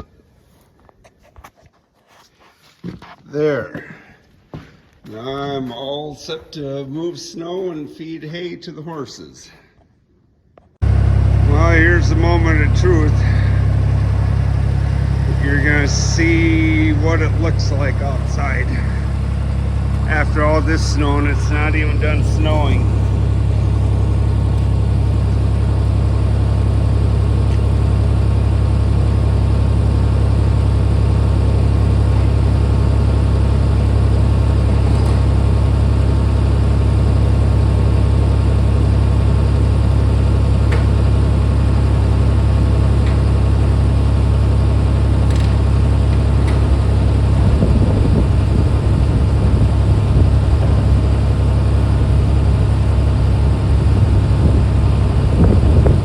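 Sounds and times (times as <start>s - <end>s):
skid steer engine humming: 10.8s - 56.0s.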